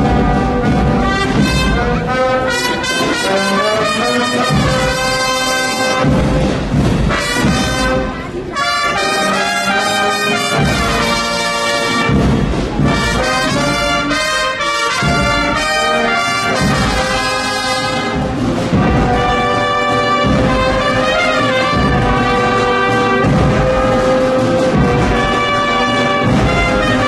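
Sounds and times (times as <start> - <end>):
low drum beats: 0.0 - 9.0, 9.9 - 27.0
brass band playing march: 0.0 - 27.0.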